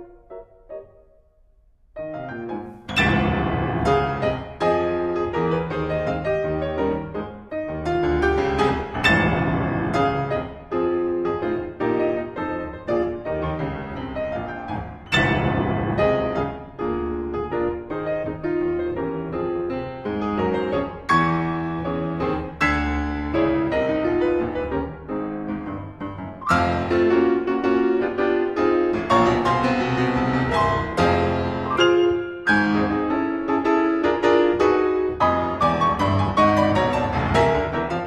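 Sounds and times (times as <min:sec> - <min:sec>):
solo piano ragtime piece: 0:00.0 - 0:01.2, 0:02.0 - 0:38.0.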